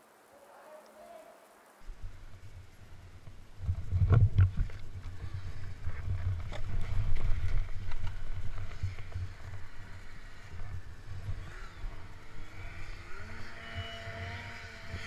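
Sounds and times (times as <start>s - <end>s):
snowmobile engine rumbling: 1.9s - 15.0s.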